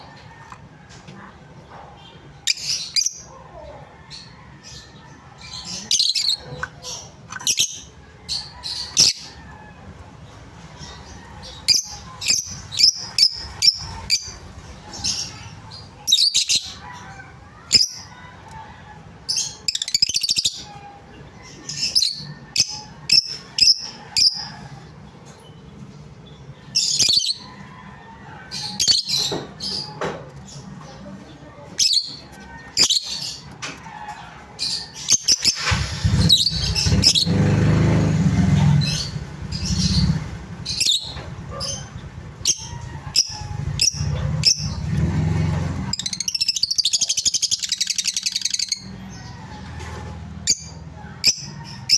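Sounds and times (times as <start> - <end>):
bird squawking and chirping: 2.4 - 24.7, 26.6 - 27.7, 28.5 - 31.0, 31.6 - 37.5, 38.4 - 51.9.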